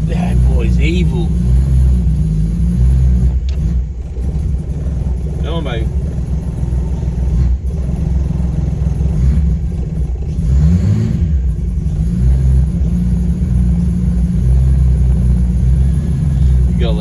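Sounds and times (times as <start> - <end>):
car engine idling: 0.0 - 17.0
engine revving: 0.0 - 17.0.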